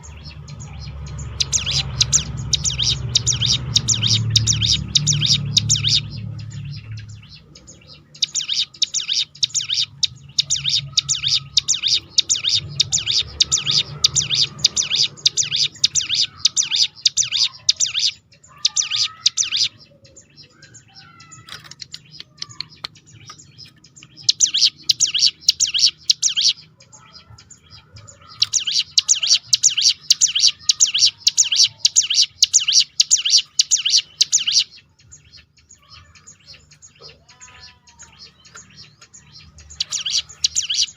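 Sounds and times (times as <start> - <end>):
bird singing rapid high notes: 0.0 - 40.9.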